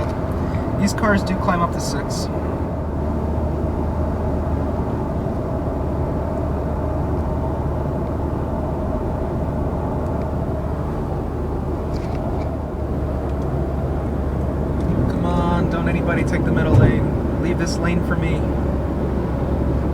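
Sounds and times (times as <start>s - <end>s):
car engine drone inside cabin: 0.0s - 19.9s.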